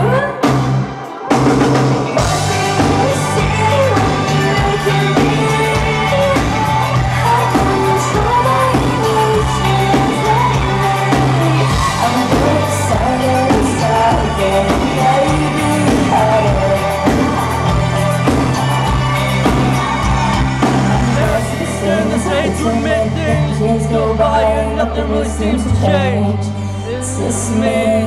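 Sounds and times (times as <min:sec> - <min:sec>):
live pop-rock band: 0:00.0 - 0:28.0
woman singing: 0:02.0 - 0:20.0, 0:20.6 - 0:28.0.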